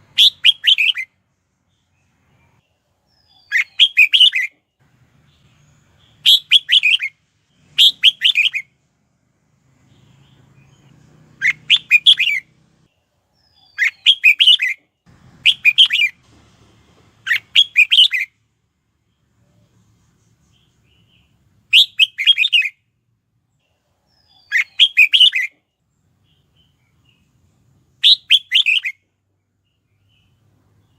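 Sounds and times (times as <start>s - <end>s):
bulbul singing: 0.0s - 8.8s, 9.5s - 16.2s, 17.2s - 18.4s, 20.2s - 22.9s, 23.6s - 30.9s.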